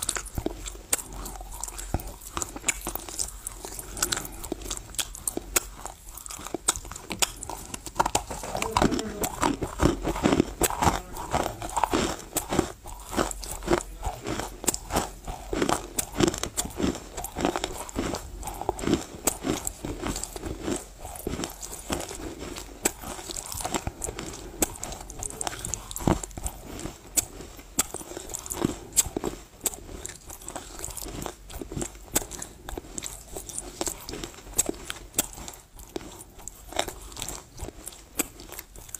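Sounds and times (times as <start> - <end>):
chewing clay crunches: 0.0 - 38.9.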